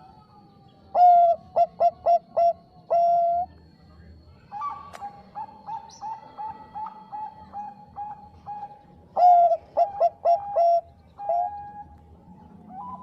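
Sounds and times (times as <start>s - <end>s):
dove cooing: 0.0s - 3.6s, 4.5s - 13.0s.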